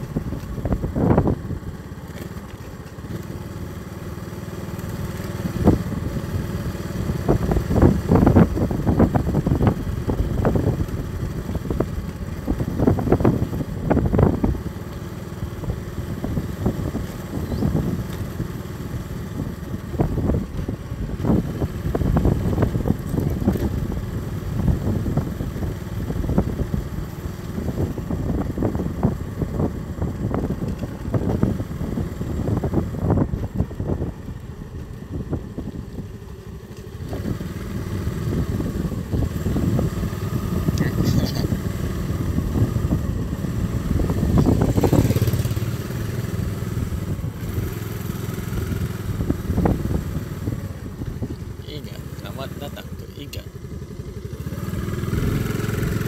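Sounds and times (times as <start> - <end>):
wind noise on microphone: 0.0 - 1.8, 5.4 - 51.9
small motorcycle engine running: 0.0 - 56.0.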